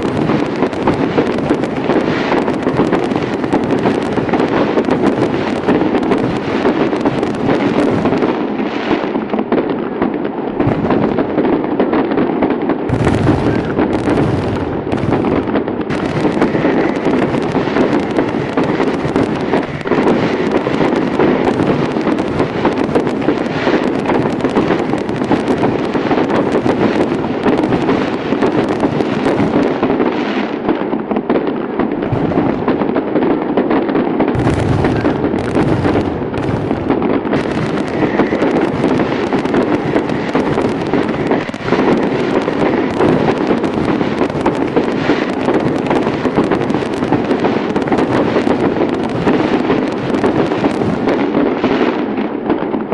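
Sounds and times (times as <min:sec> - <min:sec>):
deep fireworks rumble: 0:00.0 - 0:52.9
fireworks crackling and banging: 0:00.0 - 0:52.9.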